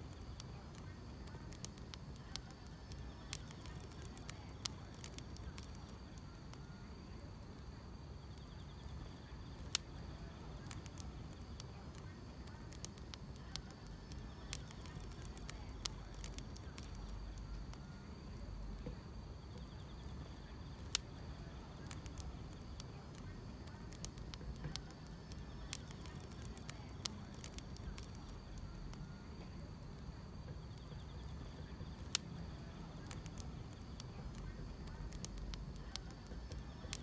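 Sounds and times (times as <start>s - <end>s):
insects chirring: 0.0s - 37.0s
wood fire crackling: 0.0s - 37.0s.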